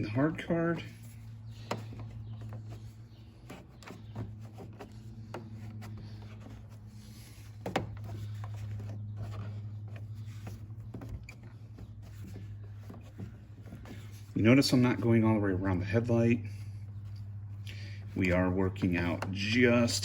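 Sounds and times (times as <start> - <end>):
hand rubbing vinyl film: 0.0 - 20.0
steady low hum: 0.0 - 20.0.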